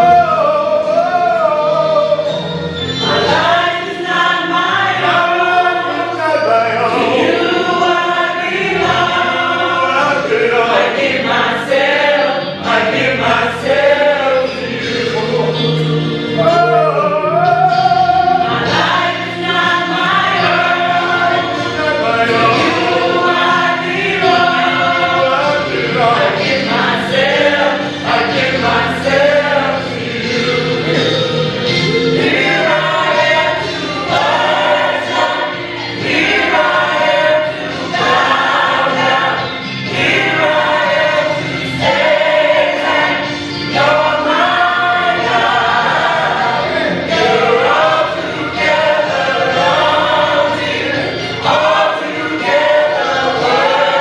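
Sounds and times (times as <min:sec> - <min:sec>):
gospel choir singing: 0:00.0 - 0:54.0
instrumental accompaniment: 0:00.0 - 0:54.0.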